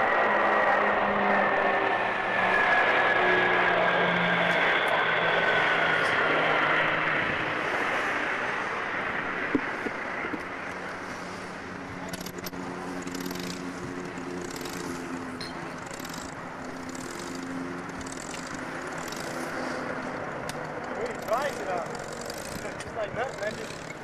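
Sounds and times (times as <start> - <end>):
jet aircraft flying past: 0.0 - 24.0.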